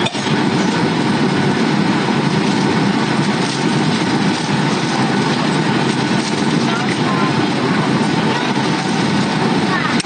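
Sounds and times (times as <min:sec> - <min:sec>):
airliner cabin low rumble: 0:00.0 - 0:10.0.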